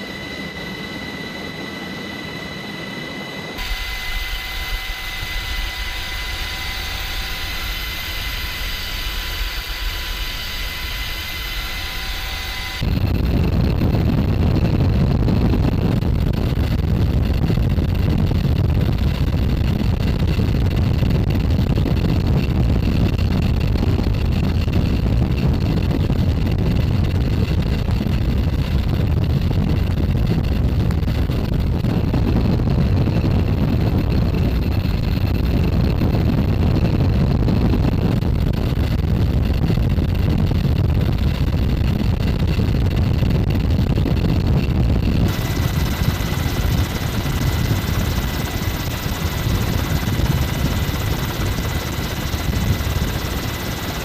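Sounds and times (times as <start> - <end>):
faint machine whine: 0.0 - 54.0
wind noise: 0.0 - 54.0.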